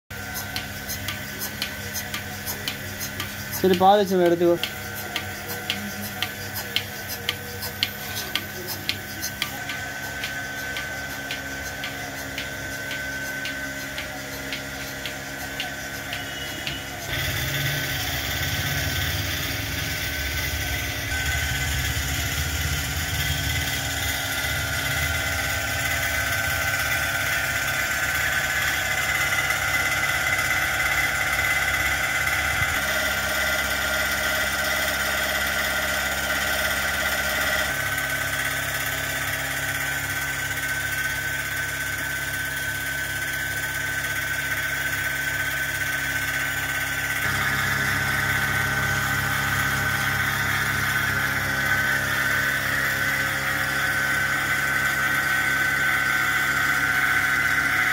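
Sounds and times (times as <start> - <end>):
small petrol engine running: 0.1 - 57.9
vacuum pump whine: 0.1 - 57.9.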